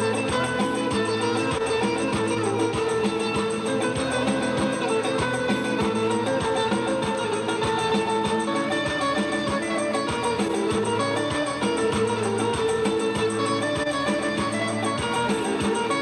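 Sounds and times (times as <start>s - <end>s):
fast plucked strings: 0.0s - 16.0s.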